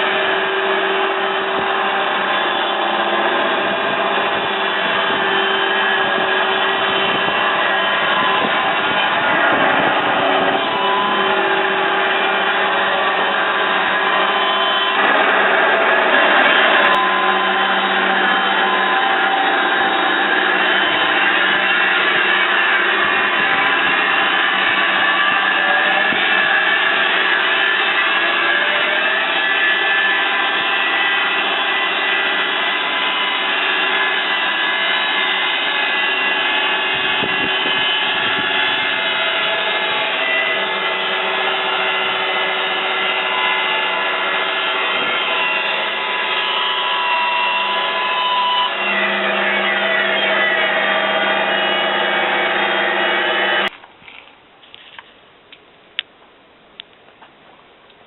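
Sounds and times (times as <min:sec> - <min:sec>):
band sawmill whining: 0:00.0 - 0:53.8.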